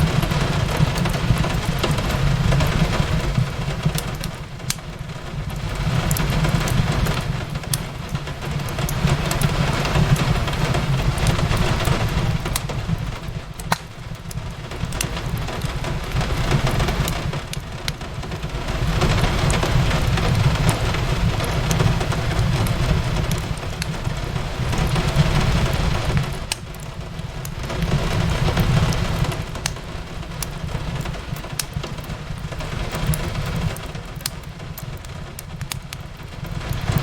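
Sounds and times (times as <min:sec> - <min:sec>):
rain on a window: 0:00.0 - 0:37.0
wood fire crackling: 0:00.0 - 0:37.0.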